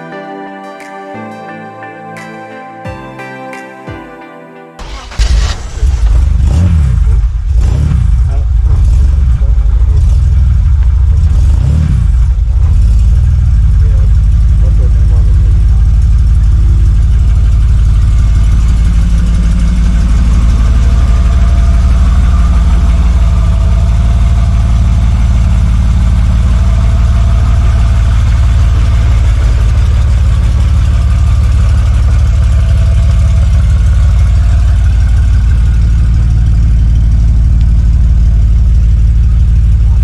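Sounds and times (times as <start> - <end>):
car engine droning: 4.8 - 40.0.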